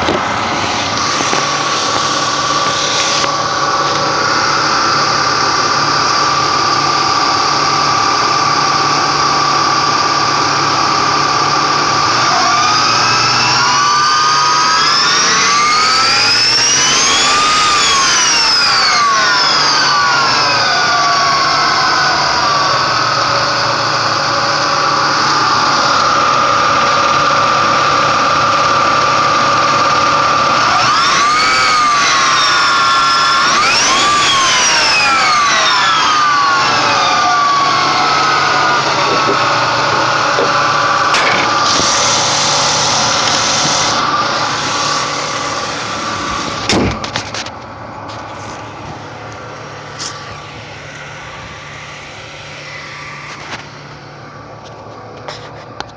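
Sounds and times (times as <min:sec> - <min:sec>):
car engine revving with whine: 0:00.0 - 0:55.9.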